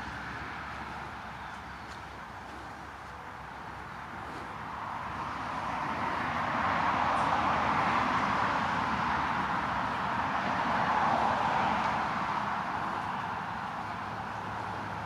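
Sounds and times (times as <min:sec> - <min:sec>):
highway traffic passing: 0:00.0 - 0:15.0.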